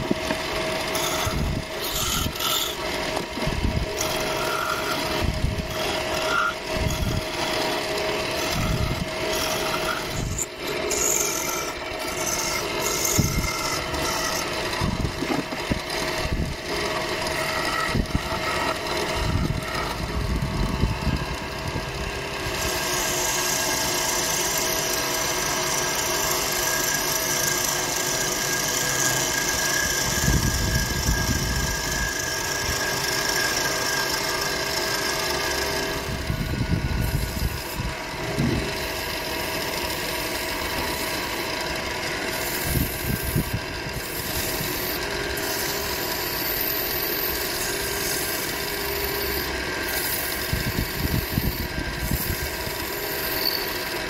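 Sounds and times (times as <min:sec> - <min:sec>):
chisel cutting spinning wood: 0:00.0 - 0:54.0
lathe motor hum: 0:00.0 - 0:54.0.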